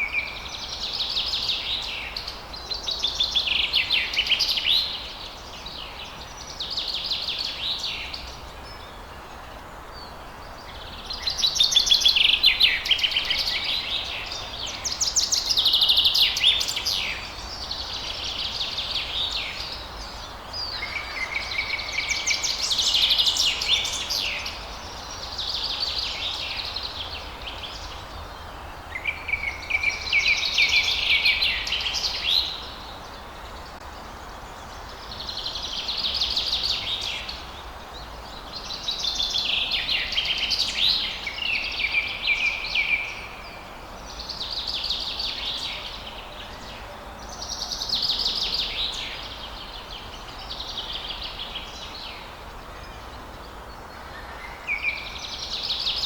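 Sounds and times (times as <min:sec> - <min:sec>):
background hiss: 0:00.0 - 0:56.0
songbirds twittering: 0:00.0 - 0:56.0.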